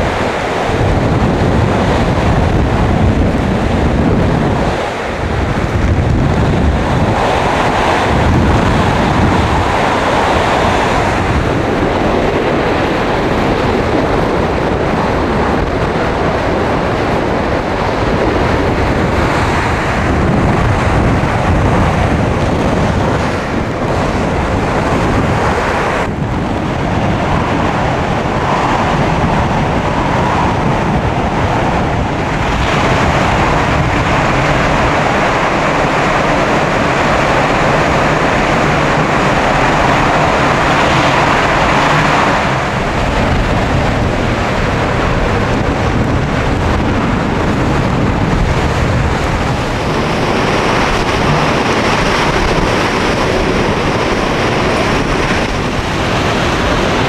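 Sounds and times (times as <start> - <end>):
wind and driving rain: 0.0 - 57.0
wind buffeting microphone: 0.0 - 57.0.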